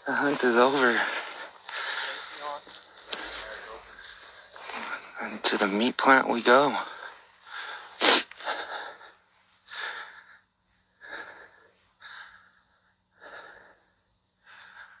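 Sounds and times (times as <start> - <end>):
person breathing hard: 0.0 - 5.2, 6.8 - 15.0.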